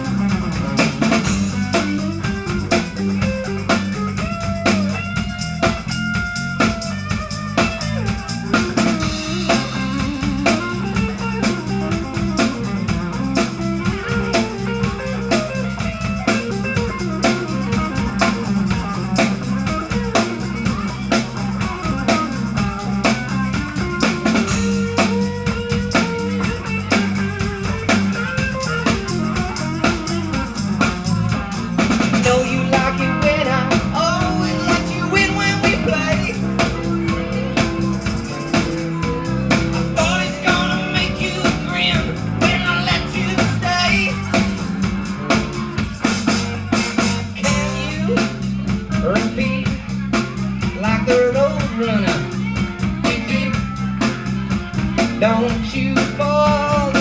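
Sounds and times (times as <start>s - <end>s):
drum kit beat: 0.0s - 57.0s
electric bass: 0.0s - 57.0s
electric guitar: 0.0s - 57.0s
funk band playing: 0.0s - 57.0s.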